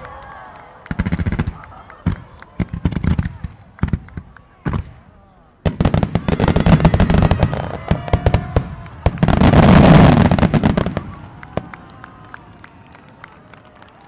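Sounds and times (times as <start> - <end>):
firework bangs and crackles: 0.8 - 13.6.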